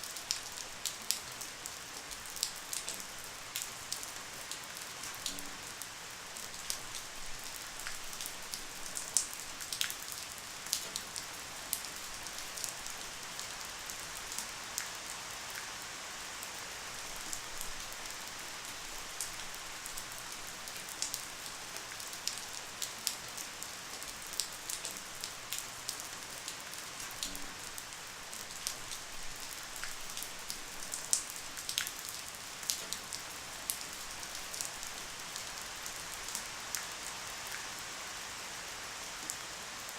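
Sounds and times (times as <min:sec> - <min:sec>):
raindrops ticking on a surface: 0:00.0 - 0:37.7
light rain hissing: 0:00.0 - 0:39.9.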